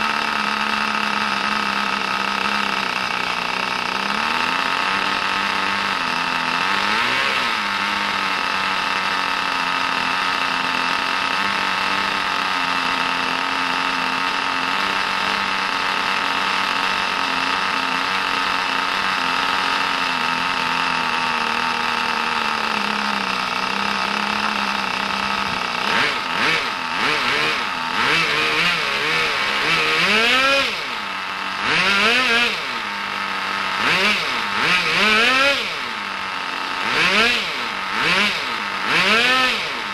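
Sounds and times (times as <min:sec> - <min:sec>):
engine revving: 0:00.0 - 0:39.9
rc car nitro engine idling: 0:00.0 - 0:39.9.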